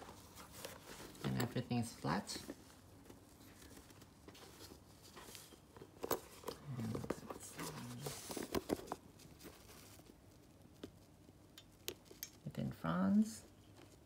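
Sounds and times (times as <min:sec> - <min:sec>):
fabric rustling: 0:00.0 - 0:12.2.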